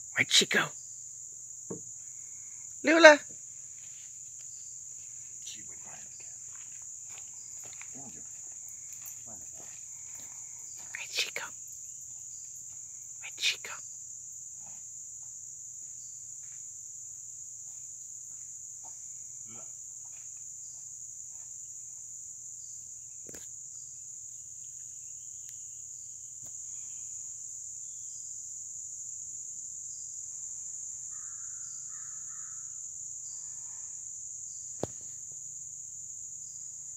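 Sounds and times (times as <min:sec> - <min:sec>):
insects chorus: 0:00.0 - 0:36.9.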